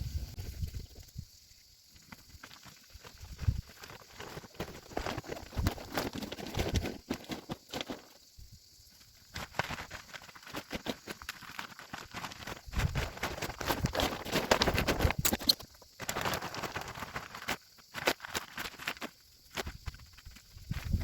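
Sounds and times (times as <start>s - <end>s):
rustling and crackling: 0.0s - 21.0s.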